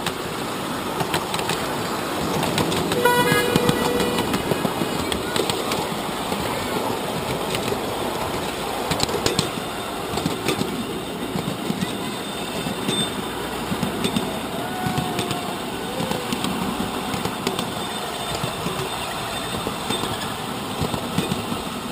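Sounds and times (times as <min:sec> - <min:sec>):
train wheels rumbling on rails: 0:00.0 - 0:21.9
clicks over rail joints: 0:01.0 - 0:12.0, 0:12.6 - 0:21.7.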